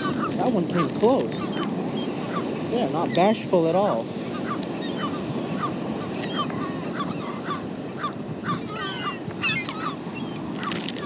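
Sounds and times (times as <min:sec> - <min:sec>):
seagulls calling: 0:00.0 - 0:11.0.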